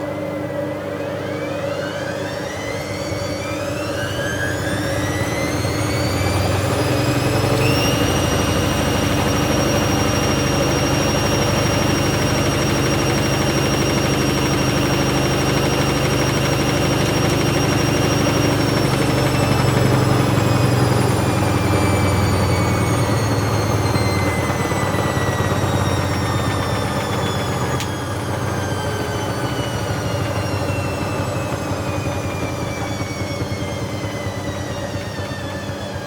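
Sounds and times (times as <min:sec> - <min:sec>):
washing machine spinning up: 0:00.0 - 0:36.0.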